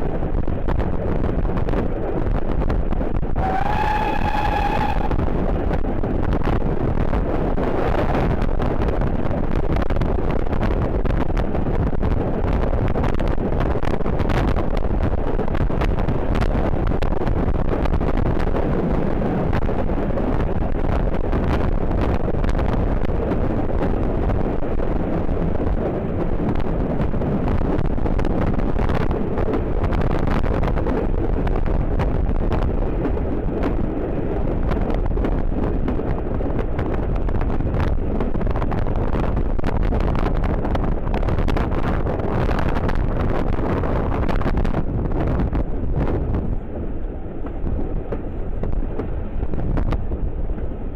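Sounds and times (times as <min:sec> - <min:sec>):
low rumble of moving train: 0:00.0 - 0:50.9
wind buffeting microphone: 0:00.0 - 0:50.9.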